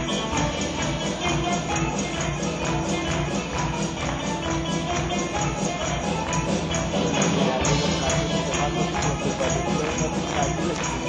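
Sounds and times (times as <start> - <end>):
folk dance music: 0.0 - 11.0.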